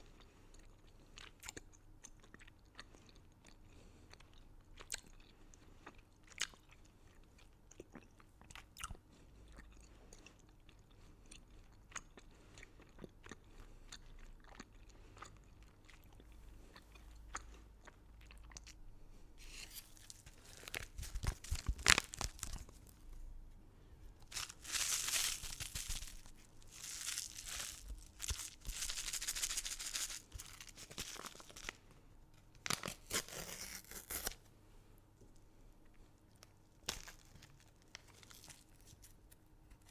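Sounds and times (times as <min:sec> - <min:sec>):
crunchy candy being chewed: 0:00.0 - 0:23.2, 0:24.1 - 0:34.4, 0:35.8 - 0:39.9.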